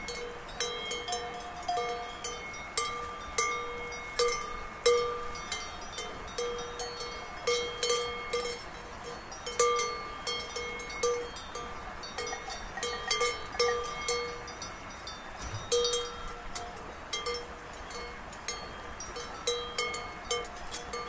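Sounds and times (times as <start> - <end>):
cowbell clanking: 0.0 - 21.0.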